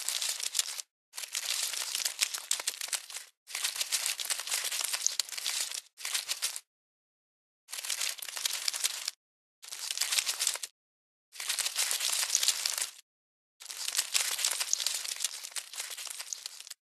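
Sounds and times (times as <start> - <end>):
crinkling crackling rustle: 0.0 - 6.7, 7.7 - 10.7, 11.4 - 13.0, 13.6 - 16.8.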